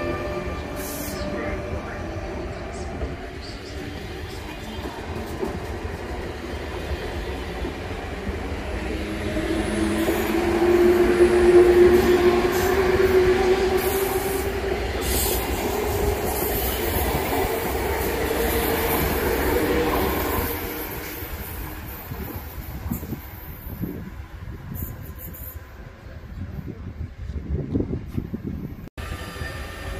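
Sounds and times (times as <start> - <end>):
train humming tone: 0.0 - 29.9
train wheels rumbling on track: 0.0 - 29.9.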